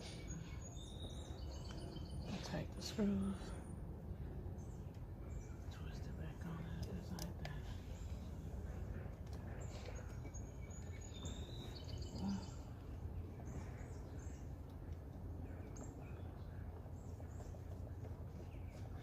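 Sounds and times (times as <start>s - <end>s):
bird chirping: 0.0s - 3.7s, 4.5s - 19.0s
outdoor background noise: 0.0s - 19.0s.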